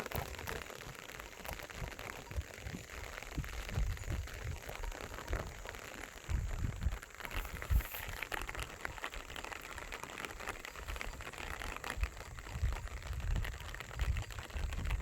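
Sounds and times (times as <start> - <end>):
rain pattering: 0.0 - 15.0
wind buffeting microphone: 0.0 - 15.0.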